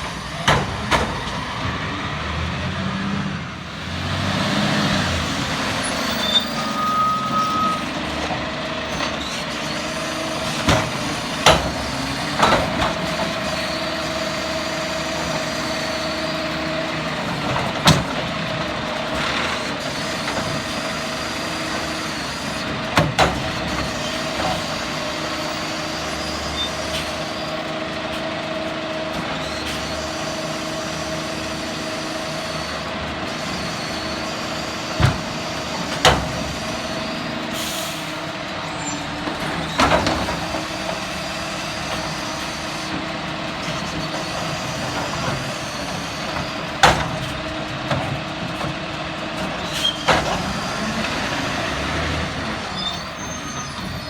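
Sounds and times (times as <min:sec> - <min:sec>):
garbage truck running: 0:00.0 - 0:54.0.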